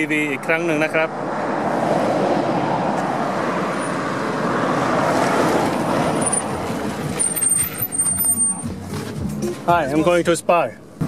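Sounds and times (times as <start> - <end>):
car approaching and pulling up: 0.0 - 11.0.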